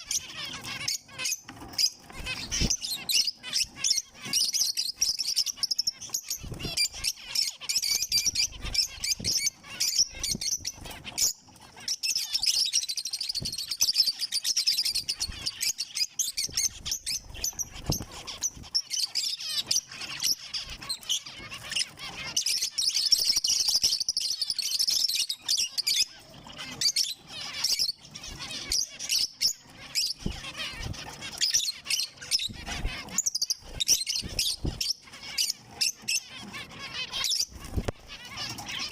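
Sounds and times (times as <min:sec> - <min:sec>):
finches chirping: 0:00.0 - 0:38.9.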